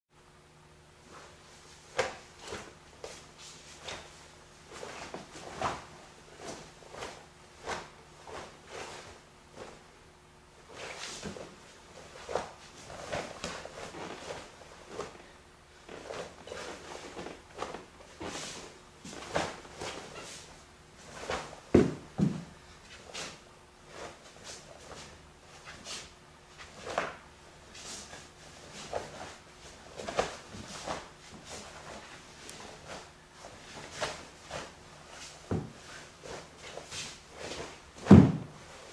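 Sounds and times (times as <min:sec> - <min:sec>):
faint steady hum: 0:00.2 - 0:38.9
bare feet on a mat: 0:01.0 - 0:09.9, 0:10.6 - 0:38.9.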